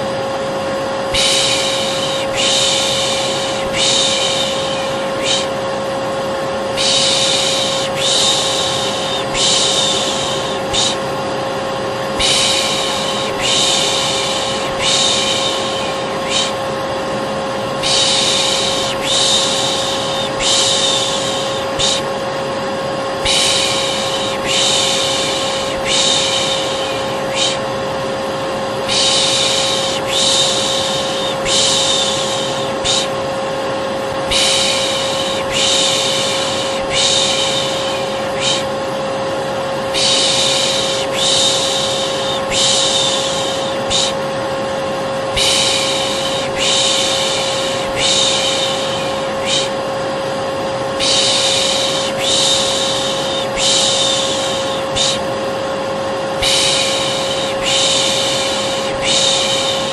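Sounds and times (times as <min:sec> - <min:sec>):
vacuum cleaner droning: 0:00.0 - 0:59.9
person shushing: 0:01.1 - 0:05.7, 0:06.7 - 0:11.1, 0:12.1 - 0:16.8, 0:17.7 - 0:22.2, 0:23.2 - 0:27.7, 0:28.8 - 0:33.3, 0:34.2 - 0:38.9, 0:39.9 - 0:44.3, 0:45.2 - 0:50.0, 0:50.9 - 0:55.4, 0:56.4 - 0:59.9.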